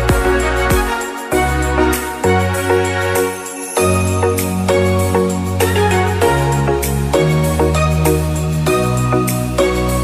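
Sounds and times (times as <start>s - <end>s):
instrumental music with bass line: 0.0s - 10.0s.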